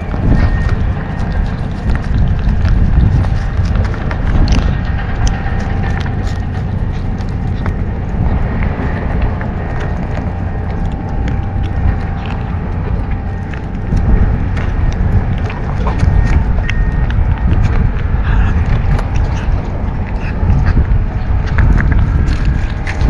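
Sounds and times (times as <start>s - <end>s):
kitten chewing and lapping: 0.0s - 23.0s
wind on microphone: 0.0s - 23.0s.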